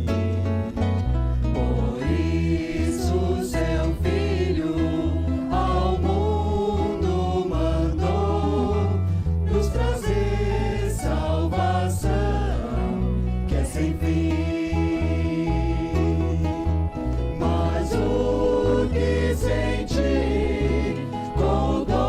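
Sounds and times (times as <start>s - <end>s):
steady bass line: 0.0s - 22.0s
vocal group singing gospel song: 1.4s - 22.0s.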